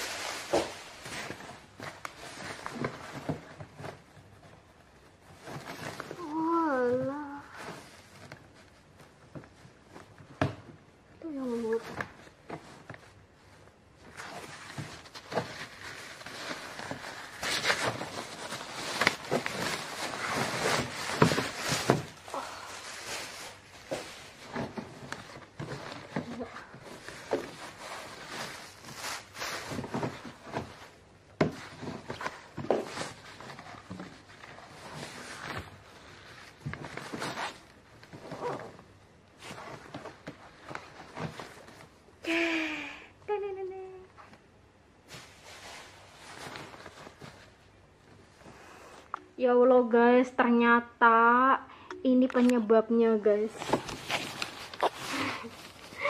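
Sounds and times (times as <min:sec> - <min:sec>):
cloth and suitcase fabric rustling: 0:00.0 - 0:42.1, 0:45.0 - 0:49.1, 0:53.2 - 0:56.0.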